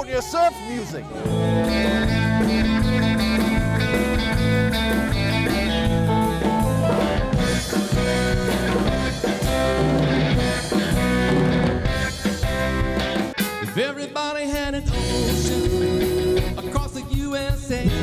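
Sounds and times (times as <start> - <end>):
surf rock band playing: 1.1 - 18.0
drum kit driving beat: 1.2 - 14.0, 14.6 - 18.0
twangy electric guitar: 1.2 - 18.0.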